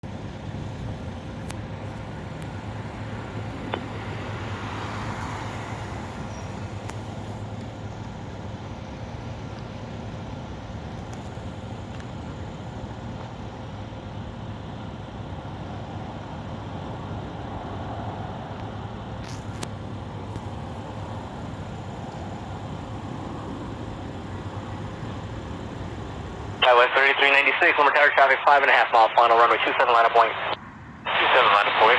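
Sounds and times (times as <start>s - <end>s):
constant low hum: 0.0s - 31.9s
traffic noise: 0.0s - 31.9s.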